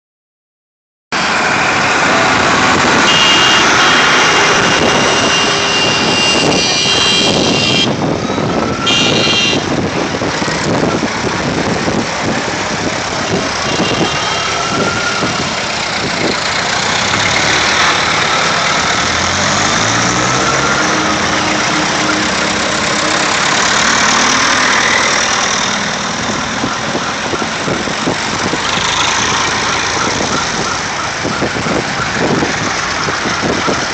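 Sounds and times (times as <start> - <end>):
tractor engines running: 1.2 - 33.9.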